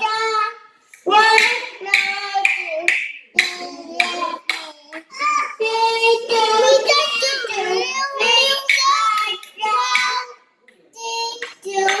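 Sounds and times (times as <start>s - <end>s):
young child singing: 0.0s - 12.0s.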